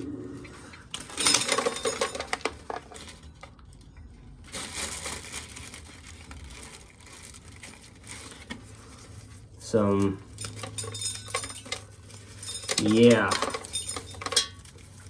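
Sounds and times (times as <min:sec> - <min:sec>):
corn kernels crackling and rattling: 0:00.8 - 0:15.0.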